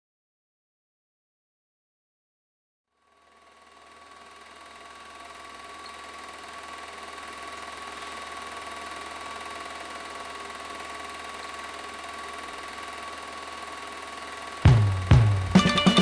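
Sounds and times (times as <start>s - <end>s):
film projector whirring: 3.0s - 16.0s.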